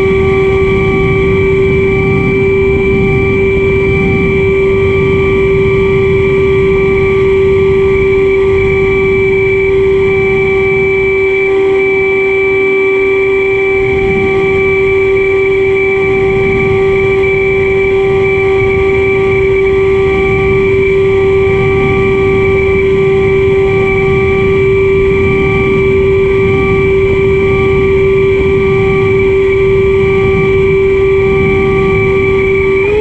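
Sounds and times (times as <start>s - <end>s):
model plane motor whine: 0.0s - 33.0s
wind buffeting microphone: 0.0s - 33.0s.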